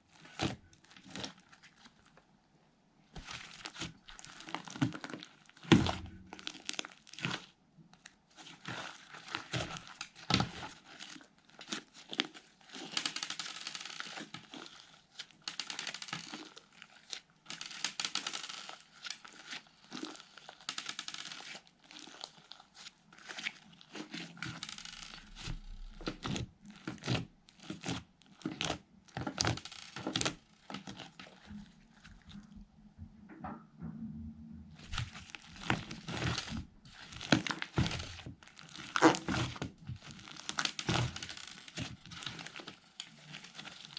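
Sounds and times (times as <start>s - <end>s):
slime squished and stretched: 0.0s - 2.2s, 3.1s - 32.6s, 34.6s - 43.9s.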